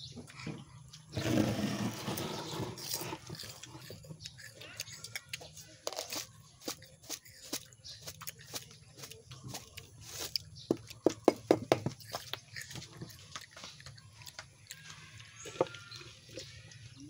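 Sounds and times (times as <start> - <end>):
crunching and chewing: 0.0 - 17.0.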